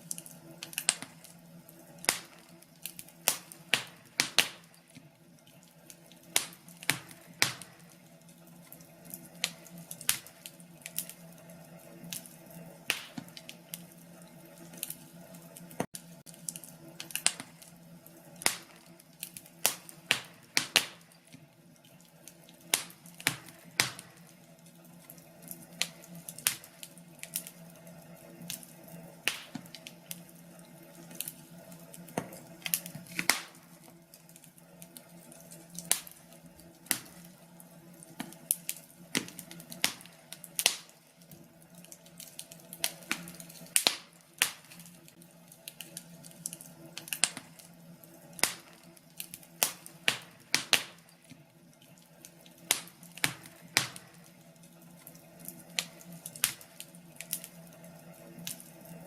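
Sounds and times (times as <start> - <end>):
wood fire popping and snapping: 0.0 - 59.0.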